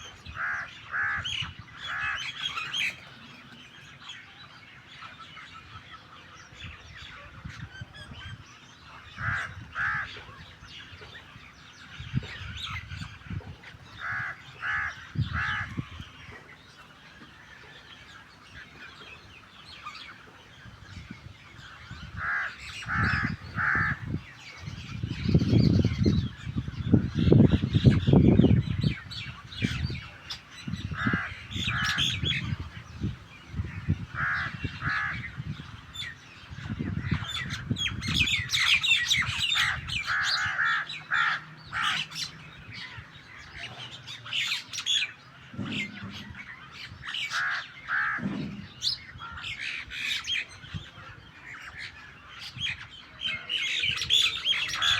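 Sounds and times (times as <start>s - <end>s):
harsh grating bird calls: 0.0s - 54.9s
soft bird chatter: 0.0s - 54.9s.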